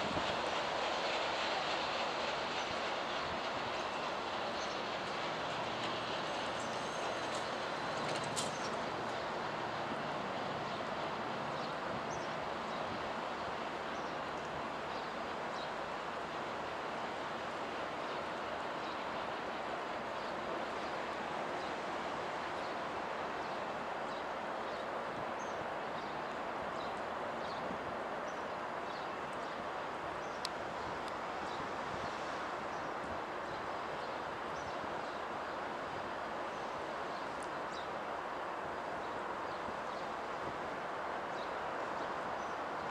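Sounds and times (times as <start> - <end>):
rail vehicle rumbling on tracks: 0.0 - 42.9.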